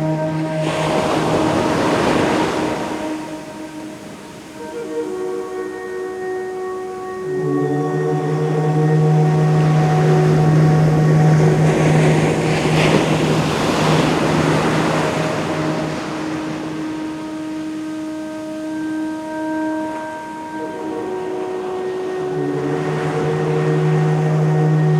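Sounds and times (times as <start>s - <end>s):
ocean surf: 0.0s - 24.9s
steady higher note: 0.0s - 24.9s
wave breaking: 0.0s - 24.9s.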